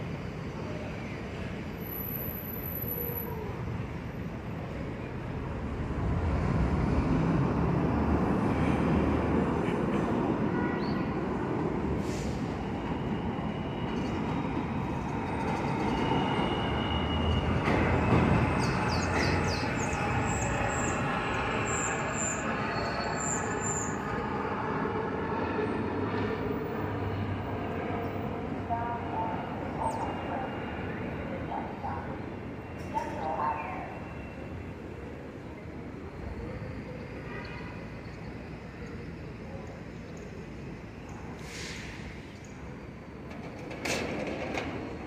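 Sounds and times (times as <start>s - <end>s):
subway train rumble: 0.0s - 45.0s.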